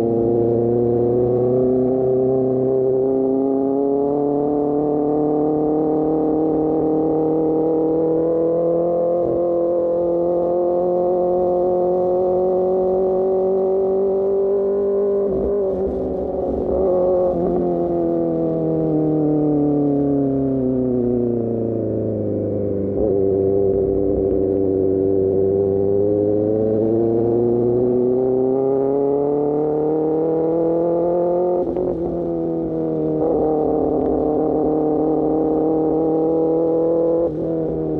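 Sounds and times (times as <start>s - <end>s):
motorcycle engine cruising: 0.0s - 37.9s.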